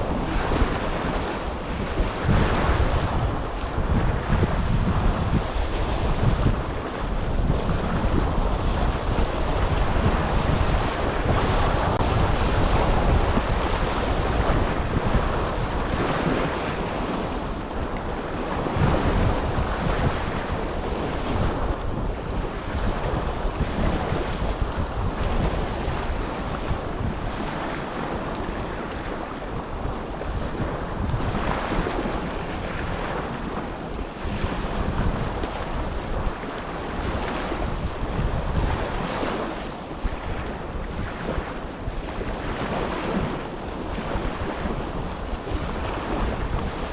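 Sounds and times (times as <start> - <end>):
small waves washing ashore: 0.0 - 46.9
wind buffeting microphone: 0.0 - 46.9.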